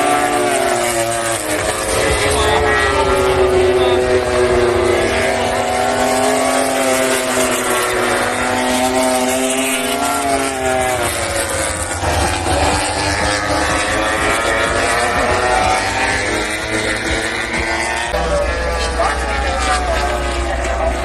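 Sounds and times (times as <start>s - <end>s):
racing motorcycles passing at high revs: 0.0s - 21.0s.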